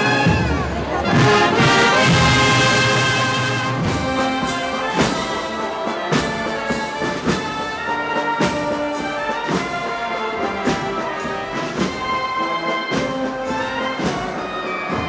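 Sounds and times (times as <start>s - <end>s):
brass band playing march: 0.0s - 15.0s
heavy drum beat: 0.0s - 15.0s.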